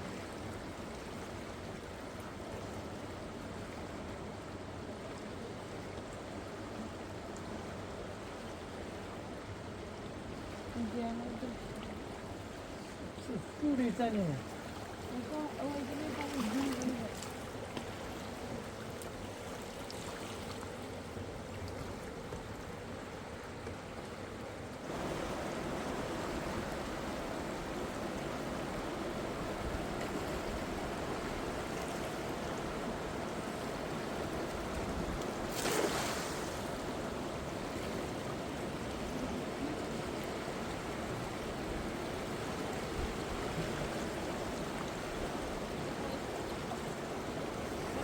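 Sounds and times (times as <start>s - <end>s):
river water rushing: 7.6s - 48.0s.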